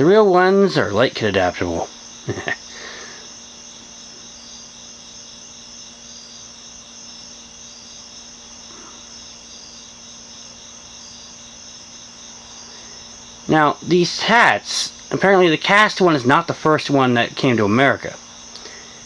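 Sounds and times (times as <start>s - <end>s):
crickets chirping: 0.0s - 19.0s
steady low hum: 0.0s - 19.0s.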